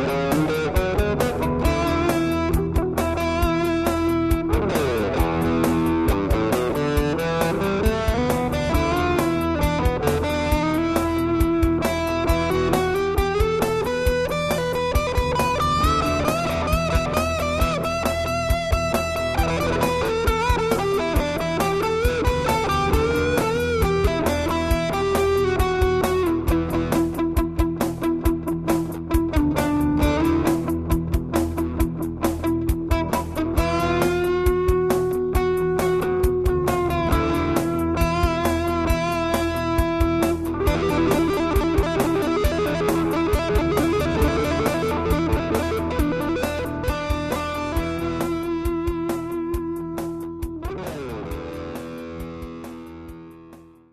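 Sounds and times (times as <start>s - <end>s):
steady drum beat: 0.0s - 53.7s
electric guitar melody: 0.0s - 53.9s.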